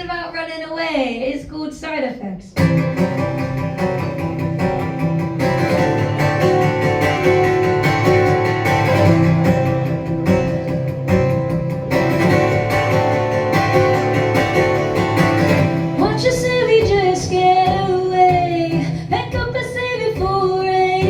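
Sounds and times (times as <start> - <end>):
strummed guitar: 2.6 - 21.0.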